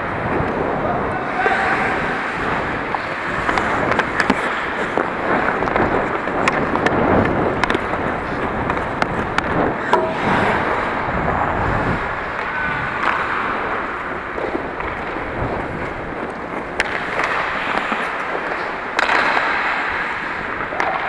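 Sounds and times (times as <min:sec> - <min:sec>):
hockey sticks and puck clacking: 0:00.0 - 0:21.0
skate blades scraping on ice: 0:00.2 - 0:21.0.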